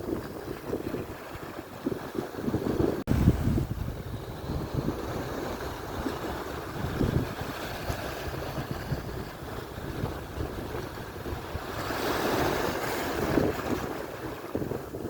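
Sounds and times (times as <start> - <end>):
surf washing onto shore: 0.0 - 15.0
wind buffeting microphone: 0.0 - 15.0.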